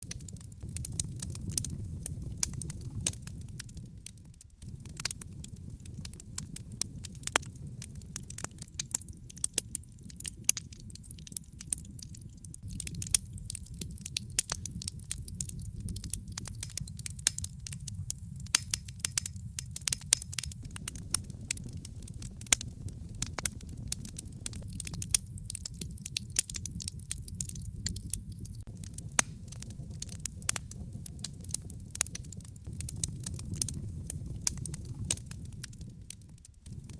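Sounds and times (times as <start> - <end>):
fireplace fire crackling: 0.0 - 36.9.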